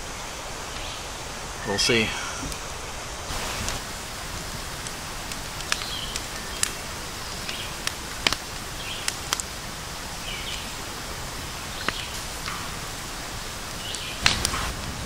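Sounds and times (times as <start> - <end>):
campfire crackling: 0.0 - 15.0
outdoor hiss: 0.0 - 15.0.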